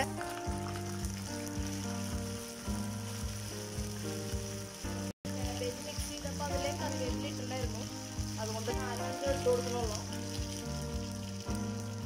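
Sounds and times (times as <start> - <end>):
leaves sizzling in hot oil: 0.0 - 12.0
mustard seeds spluttering: 0.0 - 12.0
soft background music: 0.0 - 12.0.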